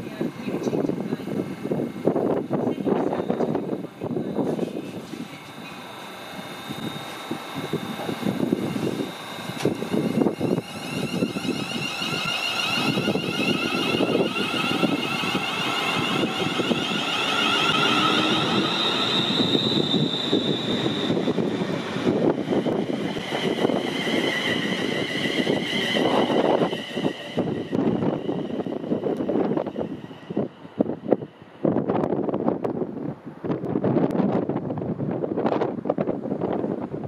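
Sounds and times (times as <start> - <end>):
train traction motor whine: 0.0 - 37.0
wind buffeting microphone: 0.0 - 37.0.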